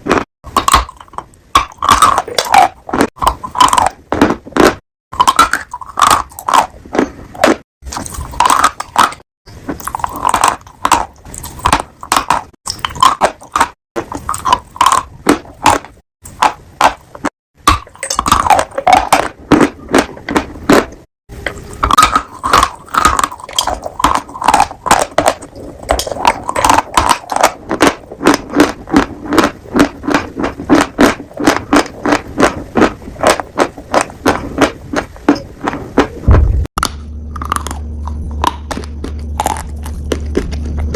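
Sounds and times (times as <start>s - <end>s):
piglet chewing crunchy food: 0.0s - 40.9s.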